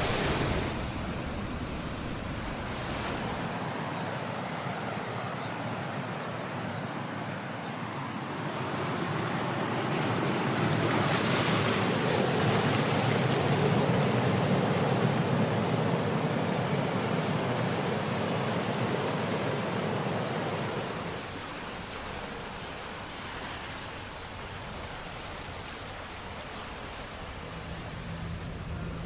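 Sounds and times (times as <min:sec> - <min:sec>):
ocean wave breaking: 0:00.0 - 0:04.4, 0:07.8 - 0:29.0.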